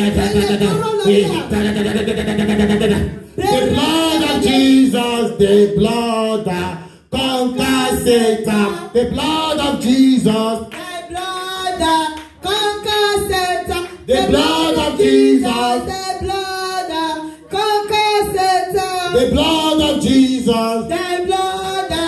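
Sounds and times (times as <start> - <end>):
voices singing worship song: 0.0 - 22.0.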